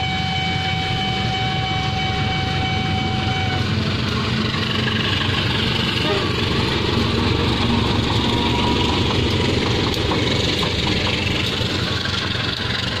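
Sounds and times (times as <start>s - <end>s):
diesel locomotives passing: 0.0s - 13.0s.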